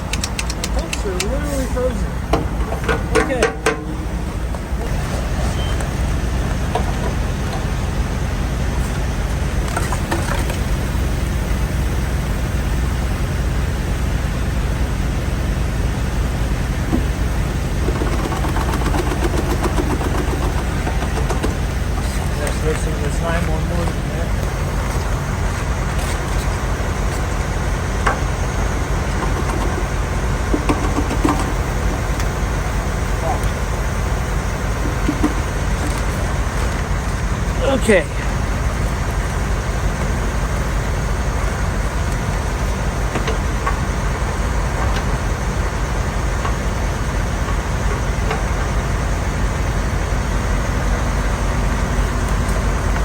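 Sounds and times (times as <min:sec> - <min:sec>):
truck diesel engine idling: 0:00.0 - 0:53.0.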